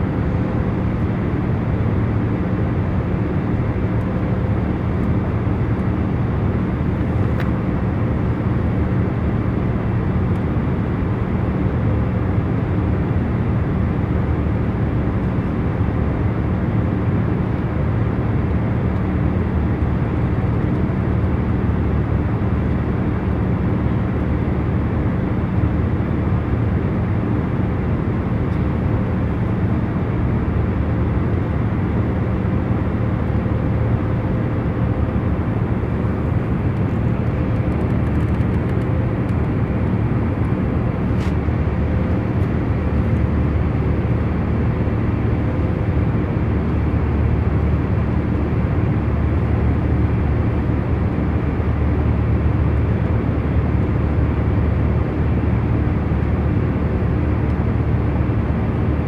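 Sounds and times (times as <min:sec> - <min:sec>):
airliner cabin engine roar: 0:00.0 - 0:59.0
faint constant hum: 0:00.0 - 0:59.0.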